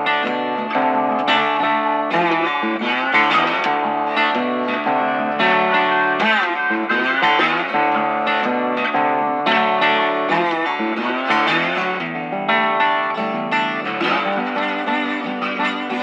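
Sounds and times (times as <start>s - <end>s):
chord backing: 0.0s - 16.0s
electric guitar melody: 0.0s - 16.0s.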